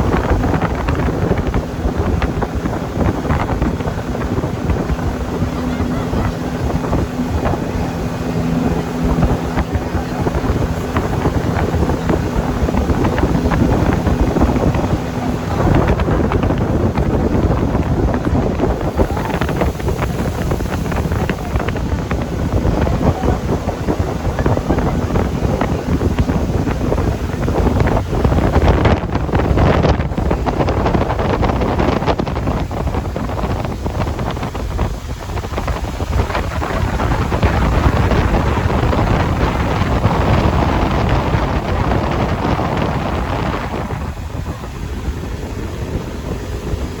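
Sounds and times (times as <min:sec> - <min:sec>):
boat engine hum: 0:00.0 - 0:47.0
wind buffeting microphone: 0:00.0 - 0:47.0.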